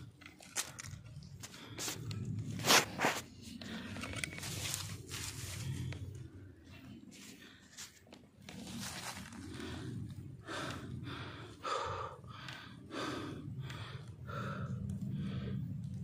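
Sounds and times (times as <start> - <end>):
steady low hum: 0.0 - 16.0
quick heavy breathing: 0.2 - 16.0.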